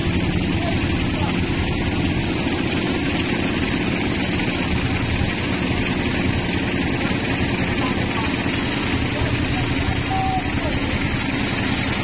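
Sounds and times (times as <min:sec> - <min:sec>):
band sawmill droning: 0:00.0 - 0:12.0.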